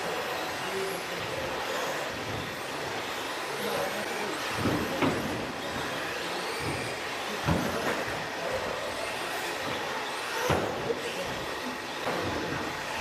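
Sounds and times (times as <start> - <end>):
rc trucks motors and tyres: 0.0 - 13.0.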